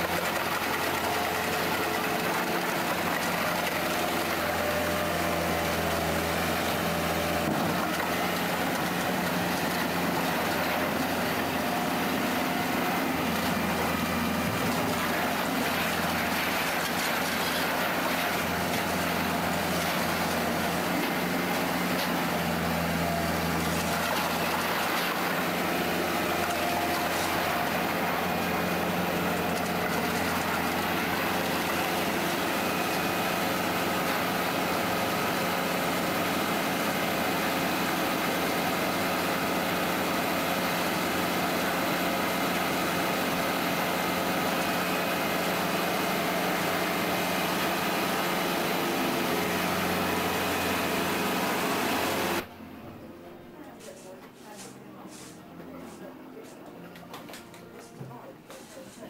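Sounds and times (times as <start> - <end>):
diesel engine humming: 0.0 - 58.8.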